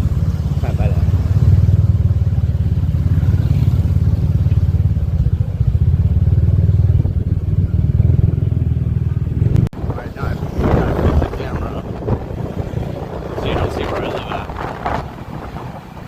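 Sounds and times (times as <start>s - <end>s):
motorbike engine rumbling: 0.0s - 16.0s.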